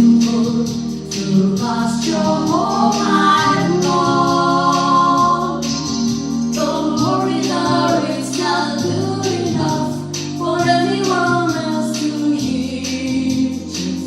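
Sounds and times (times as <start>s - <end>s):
keyboard backing chords: 0.0s - 14.0s
women singing in harmony: 0.0s - 14.0s.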